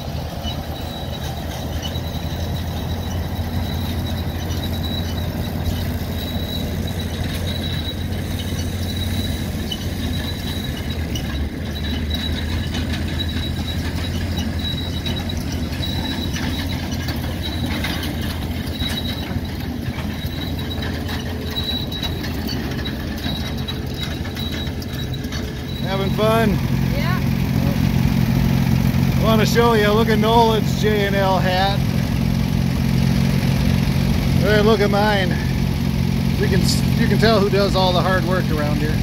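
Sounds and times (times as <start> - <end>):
high-pitched squeak: 0.0 - 31.9, 36.4 - 39.0.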